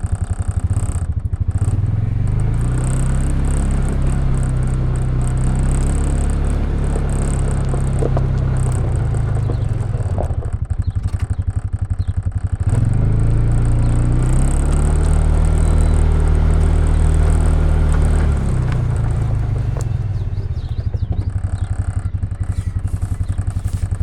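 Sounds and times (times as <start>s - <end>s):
farm vehicle engine running: 0.0s - 24.0s.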